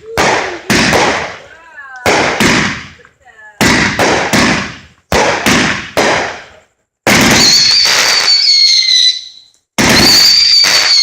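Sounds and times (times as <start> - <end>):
firework bang: 0.0 - 3.0, 3.6 - 11.0
whistling firework blasts: 0.0 - 11.0.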